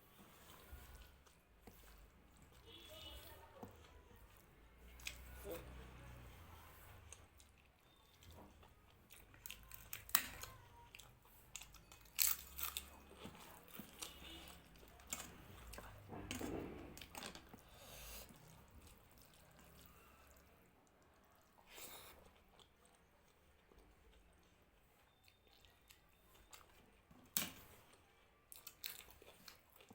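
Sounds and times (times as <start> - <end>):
chewing and crunching food: 0.0 - 29.9.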